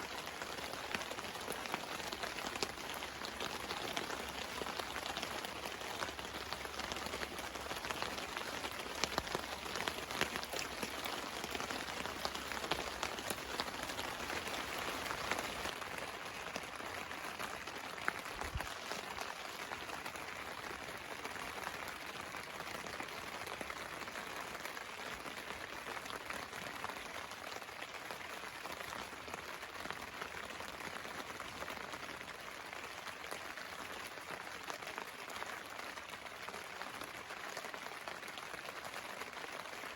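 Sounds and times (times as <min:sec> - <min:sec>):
rain pattering on a tarp: 0:00.0 - 0:39.9.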